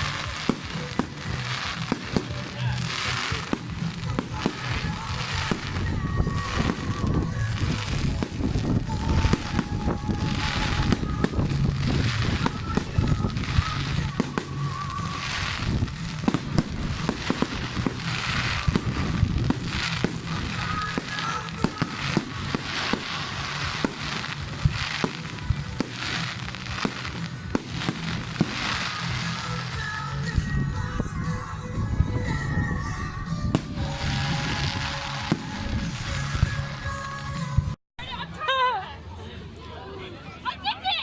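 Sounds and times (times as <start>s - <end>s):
fireworks bangs and crackles: 0.0s - 37.8s
background music: 0.0s - 38.3s.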